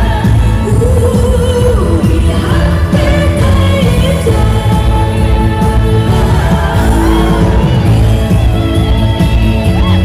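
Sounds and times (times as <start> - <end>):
woman singing with vibrato: 0.0 - 8.6
band backing with bass beat: 0.0 - 10.0.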